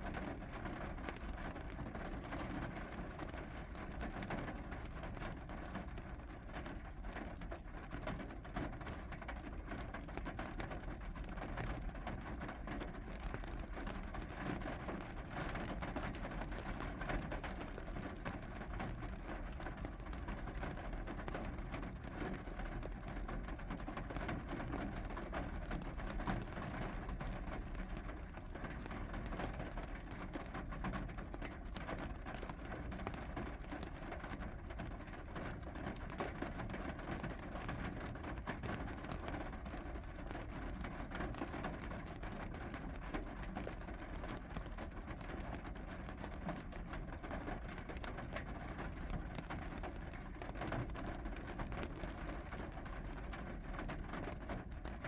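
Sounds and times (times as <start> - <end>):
steady rain falling: 0.1 - 55.0.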